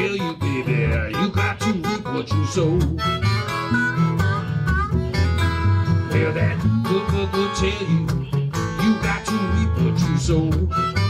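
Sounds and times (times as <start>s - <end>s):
acoustic guitar picking: 0.0s - 11.0s
harmonica bending notes: 0.0s - 11.0s
low bass notes: 0.0s - 11.0s.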